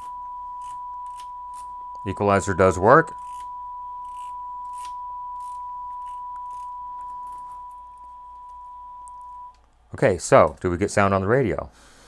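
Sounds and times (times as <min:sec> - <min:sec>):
steady test tone: 0:00.0 - 0:10.1
faint low hum: 0:00.0 - 0:11.4.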